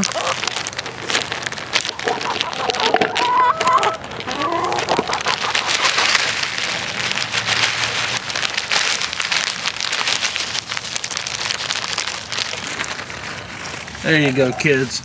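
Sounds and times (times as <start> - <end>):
crumbs pattering onto grass: 0.0 - 15.0
plastic bag rustling: 0.0 - 15.0.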